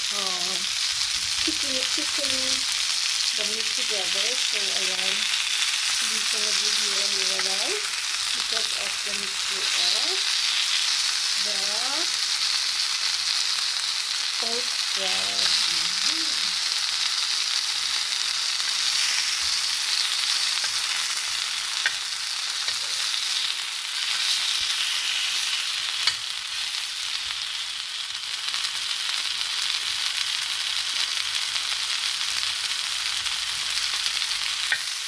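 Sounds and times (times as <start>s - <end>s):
sausages sizzling in a pan: 0.0s - 35.0s.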